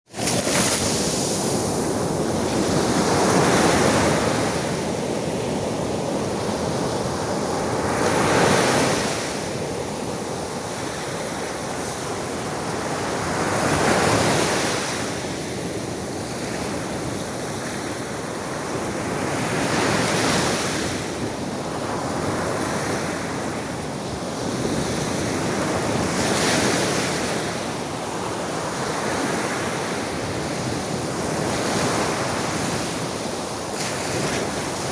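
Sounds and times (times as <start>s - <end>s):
sea waves washing in: 0.1s - 34.9s.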